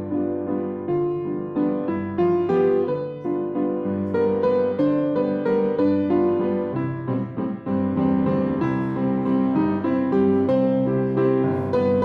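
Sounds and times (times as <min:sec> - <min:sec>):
upright piano playing: 0:00.0 - 0:12.0.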